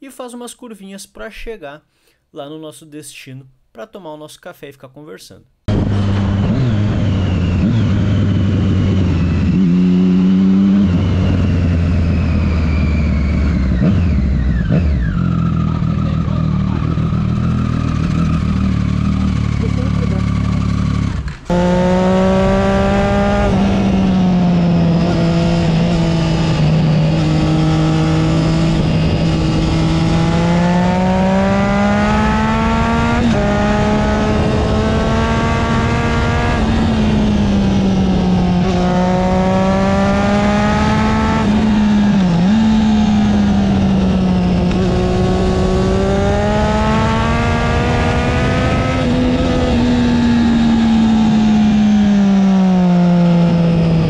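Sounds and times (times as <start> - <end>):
motorcycle engine accelerating: 5.7 - 54.0.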